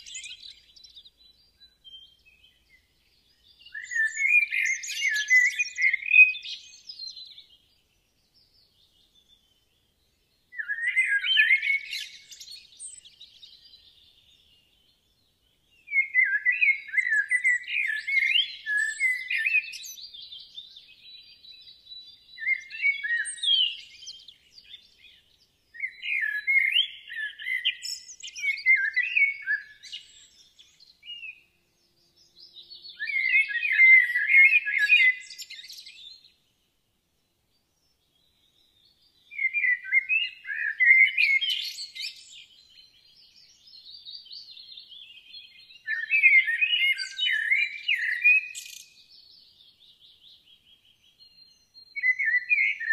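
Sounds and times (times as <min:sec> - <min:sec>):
small bird chirping and twittering: 0:00.0 - 0:36.7, 0:37.4 - 0:52.9.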